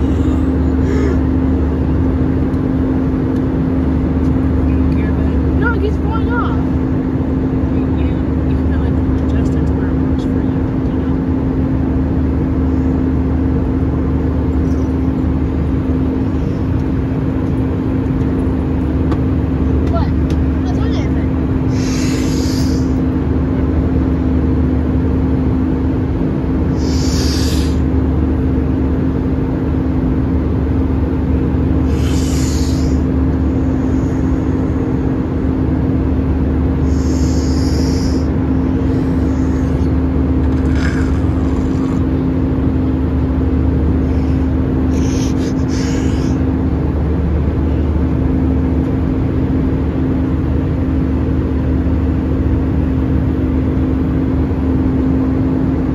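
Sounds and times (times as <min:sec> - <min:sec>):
airliner cabin engine drone: 0:00.0 - 0:55.9.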